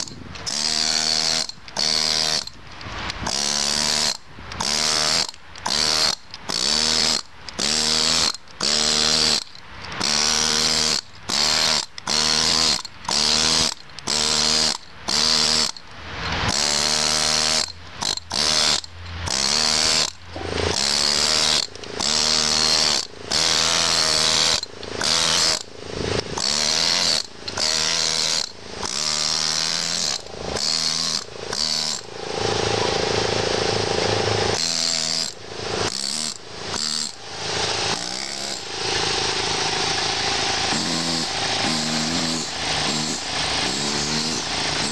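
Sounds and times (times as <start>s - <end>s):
pneumatic chisel hammering stone: 0.0s - 44.9s.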